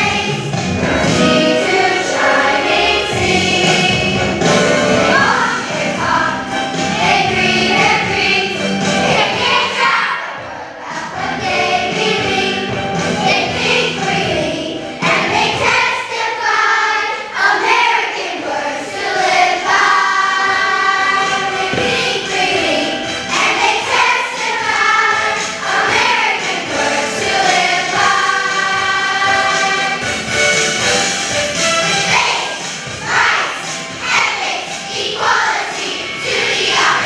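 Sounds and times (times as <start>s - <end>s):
instrumental accompaniment: 0.0s - 15.9s, 17.5s - 37.0s
children's choir singing: 0.0s - 37.0s.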